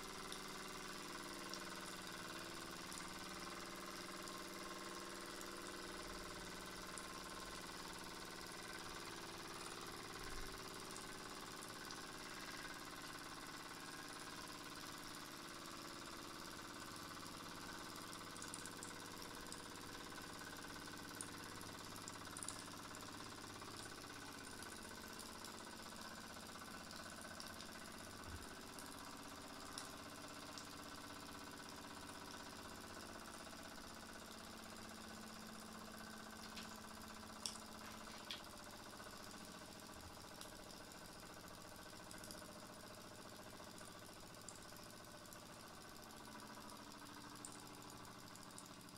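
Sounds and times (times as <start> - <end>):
model steam engine running: 0.0 - 48.9.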